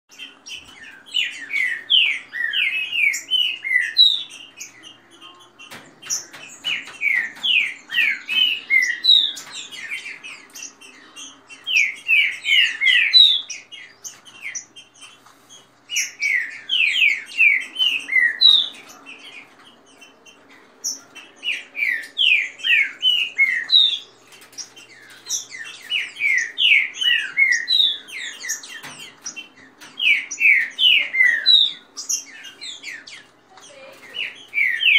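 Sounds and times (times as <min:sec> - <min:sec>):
birds singing whistled notes: 0:00.1 - 0:34.9.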